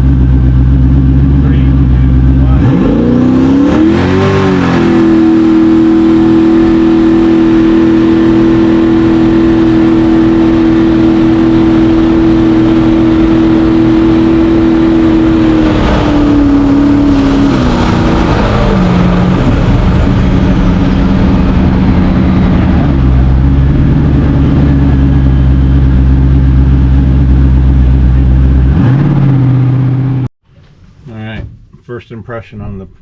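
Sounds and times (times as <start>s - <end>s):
jet boat engine revving: 0.0s - 30.3s.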